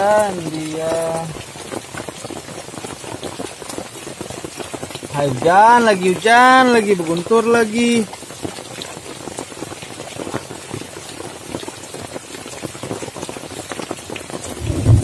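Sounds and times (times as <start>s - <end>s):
heavy rain falling: 0.0s - 15.0s
raindrops ticking: 0.0s - 15.0s.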